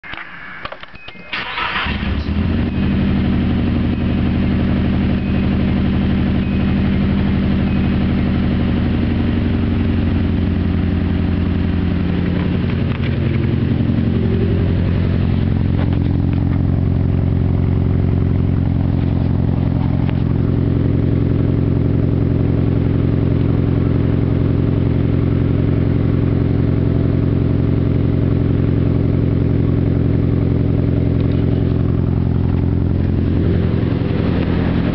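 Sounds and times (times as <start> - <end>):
car engine starting and idling: 0.0 - 34.9.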